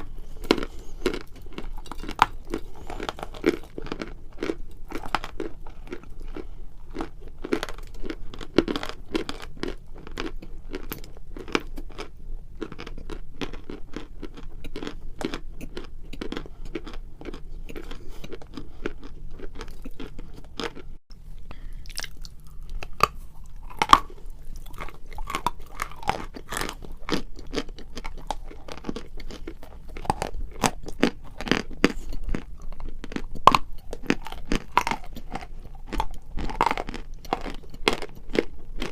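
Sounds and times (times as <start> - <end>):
chalk crunching while chewed: 0.0 - 38.9.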